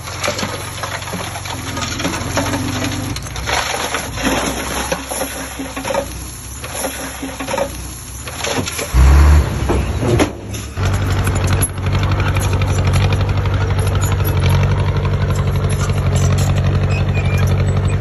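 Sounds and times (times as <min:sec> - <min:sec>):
diesel engine running: 0:00.0 - 0:18.0
soil and stones crunching: 0:00.0 - 0:18.0.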